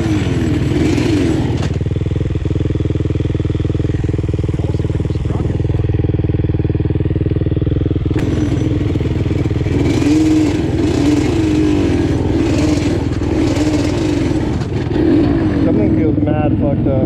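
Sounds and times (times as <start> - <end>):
two-stroke quad engine revving: 0.0 - 17.0.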